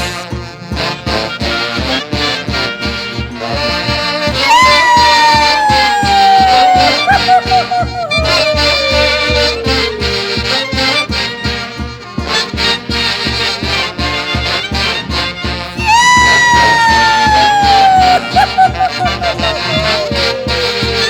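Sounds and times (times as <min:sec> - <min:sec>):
festival band music: 0:00.0 - 0:21.0.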